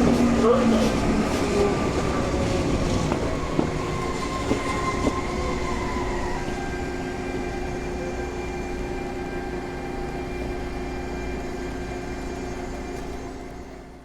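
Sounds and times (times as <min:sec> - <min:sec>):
electric train inverter whine: 0:00.0 - 0:14.0
train running rumble: 0:00.0 - 0:14.0.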